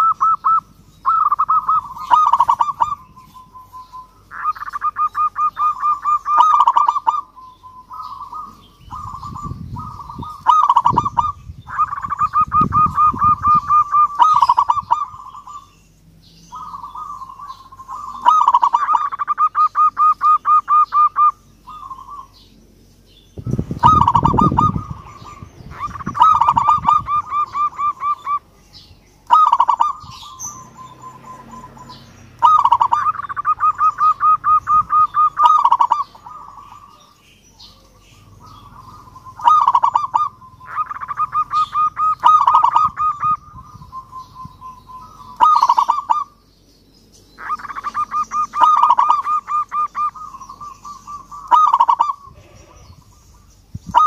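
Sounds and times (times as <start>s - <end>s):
dove cooing: 0.0s - 15.7s, 16.4s - 22.5s, 23.4s - 28.6s, 29.2s - 46.4s, 47.4s - 54.0s.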